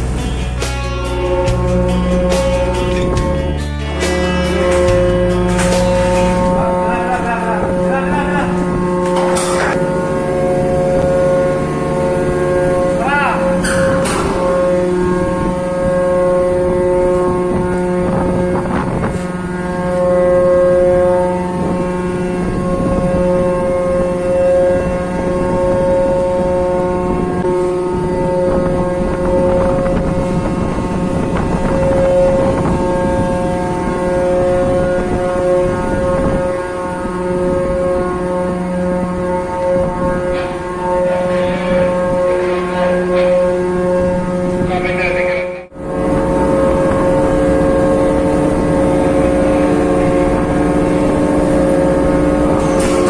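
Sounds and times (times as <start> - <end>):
winch machinery humming: 0.0 - 53.0.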